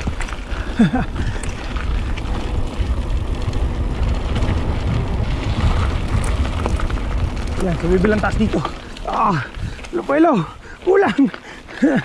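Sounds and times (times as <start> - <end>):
wind rumble on microphone: 0.0 - 10.9
bike tyre and trail noise: 0.0 - 12.0.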